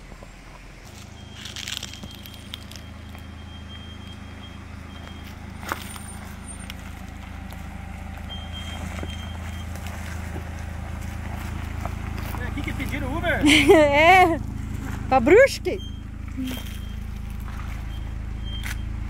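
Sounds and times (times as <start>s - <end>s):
suv engine at low speed: 0.0s - 19.0s.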